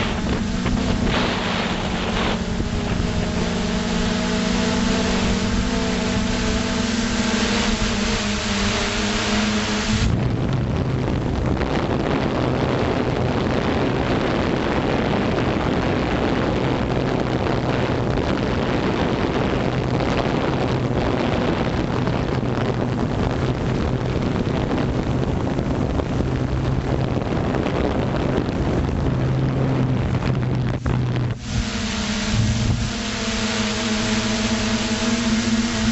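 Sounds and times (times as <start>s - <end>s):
drone motors humming: 0.0s - 35.9s
wind rushing on microphone: 0.0s - 35.9s.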